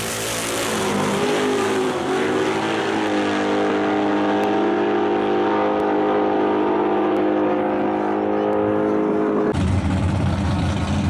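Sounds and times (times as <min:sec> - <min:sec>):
racing car engines at full throttle: 0:00.0 - 0:11.0.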